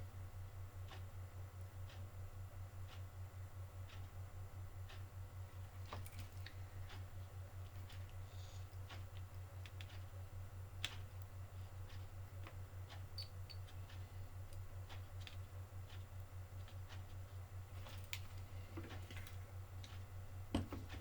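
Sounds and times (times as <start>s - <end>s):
pulsing electrical hum: 0.0s - 21.0s.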